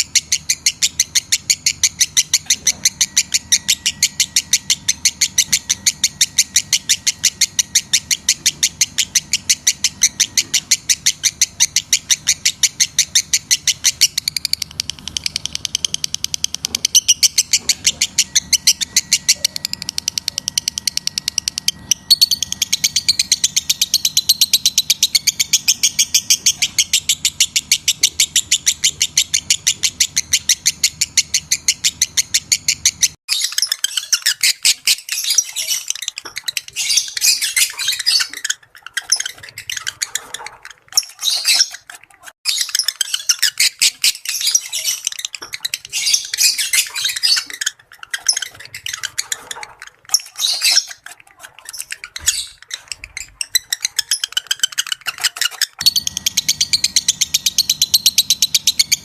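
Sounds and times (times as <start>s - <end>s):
lovebirds chirping and chattering: 0.0s - 59.0s.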